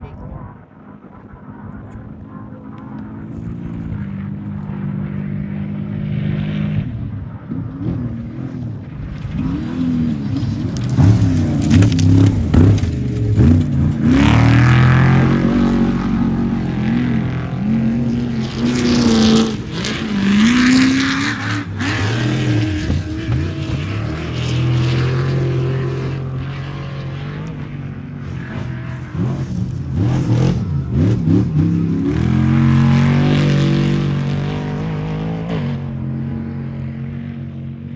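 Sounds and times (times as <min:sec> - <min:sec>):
race truck engines revving: 0:00.0 - 0:37.9.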